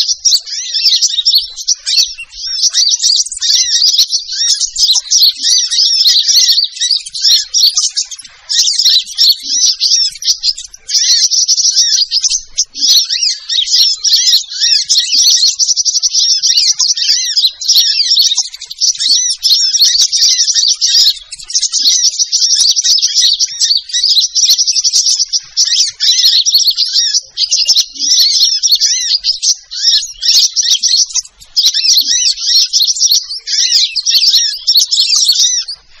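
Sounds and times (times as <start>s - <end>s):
recorded bird twittering: 0.0s - 36.0s.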